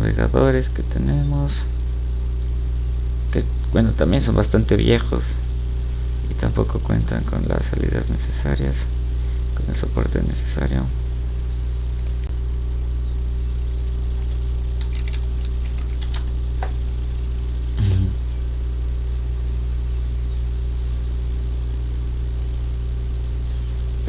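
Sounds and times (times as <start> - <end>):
electrical mains hum: 0.0 - 24.0
high-pitched whine: 0.0 - 24.0.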